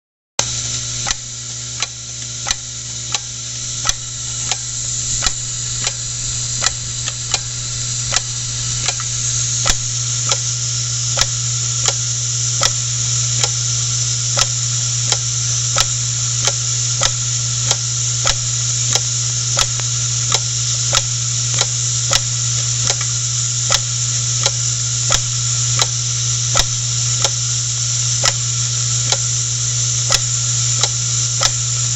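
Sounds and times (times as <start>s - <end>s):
machinery humming and hissing: 0.4s - 31.9s
evenly timed sharp clicks: 0.5s - 31.9s.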